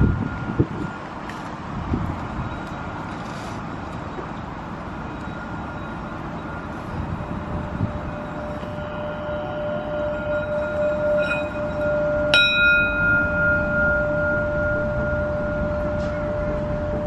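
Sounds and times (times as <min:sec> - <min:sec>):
low outdoor rumble: 0:00.0 - 0:17.0
singing bowl ringing: 0:02.2 - 0:17.0.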